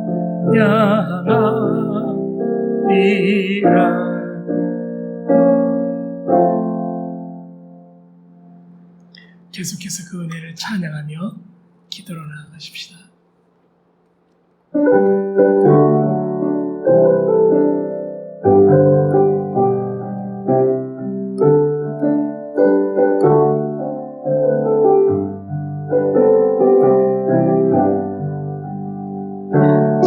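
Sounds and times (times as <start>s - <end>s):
piano playing hymn chords: 0.0s - 10.4s, 14.7s - 30.0s.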